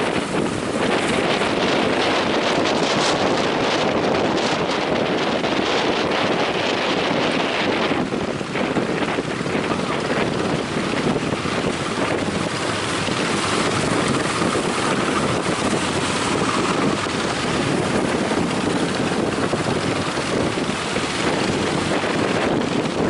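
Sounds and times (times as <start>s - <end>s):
sea surf: 0.0s - 23.0s
wind blowing across microphone: 0.0s - 23.0s.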